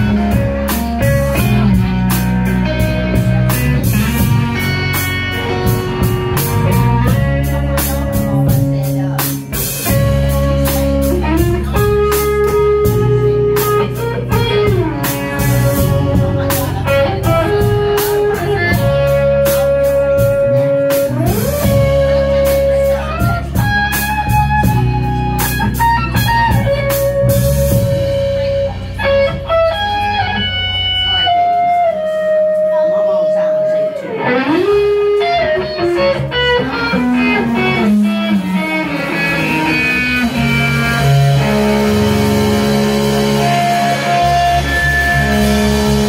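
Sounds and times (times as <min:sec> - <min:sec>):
drum kit beat: 0:00.0 - 0:46.0
electric guitar bending notes: 0:00.0 - 0:46.0
low bass notes: 0:00.0 - 0:46.0.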